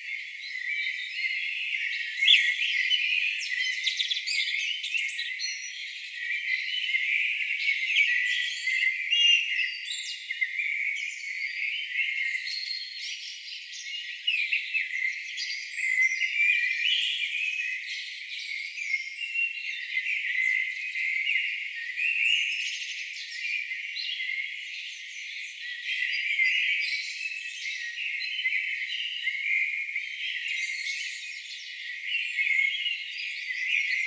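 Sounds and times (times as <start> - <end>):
songbirds singing: 0.0 - 34.0.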